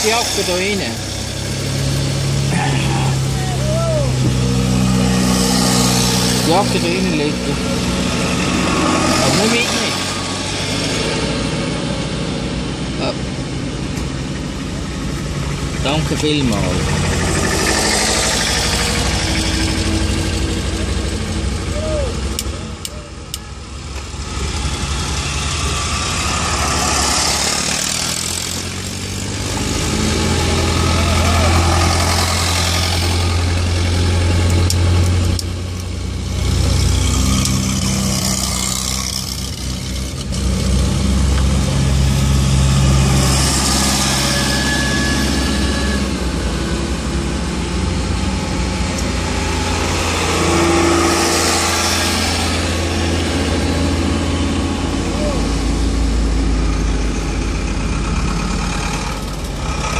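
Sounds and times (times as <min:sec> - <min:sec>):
low engine drone: 0:00.0 - 0:59.9
tractor engines chugging past: 0:00.0 - 0:59.9.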